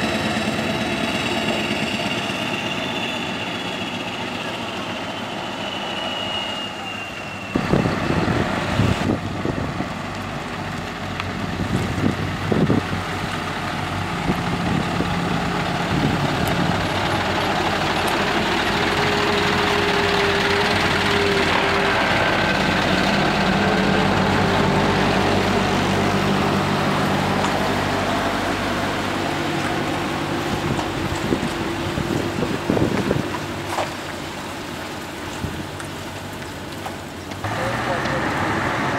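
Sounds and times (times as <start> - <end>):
rushing noise: 0.0 - 33.7
diesel truck engines droning: 0.0 - 38.9.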